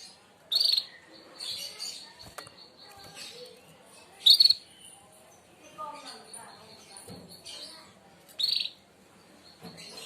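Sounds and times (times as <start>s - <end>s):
canary singing: 0.0s - 10.0s.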